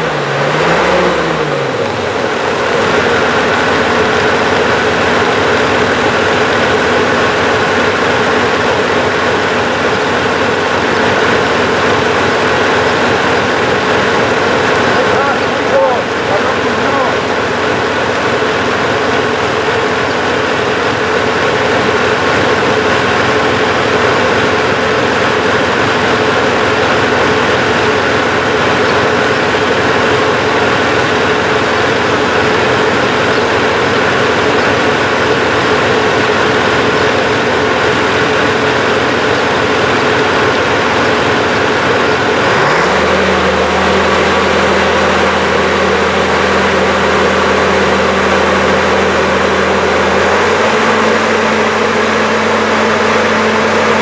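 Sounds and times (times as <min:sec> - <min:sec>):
diesel engine revving up: 0:00.0 - 0:54.0
diesel locomotive engine idling: 0:00.0 - 0:54.0.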